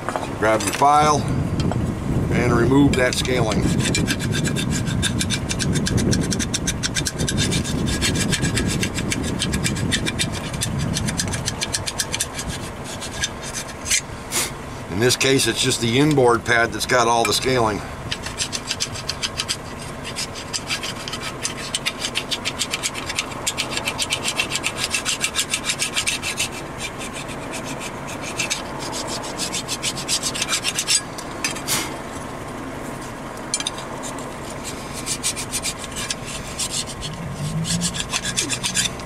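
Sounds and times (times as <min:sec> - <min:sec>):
hand file rasping metal: 0:02.7 - 0:14.1, 0:16.9 - 0:31.9, 0:33.5 - 0:39.0.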